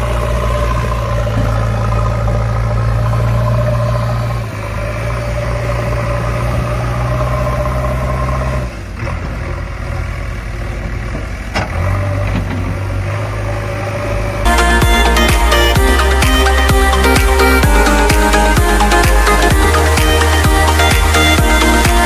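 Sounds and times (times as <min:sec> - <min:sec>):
low engine sound: 0:00.0 - 0:22.0.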